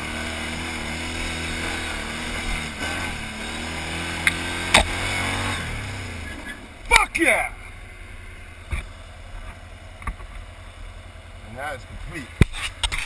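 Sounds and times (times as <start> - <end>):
atv engine running under load: 0.0 - 13.0.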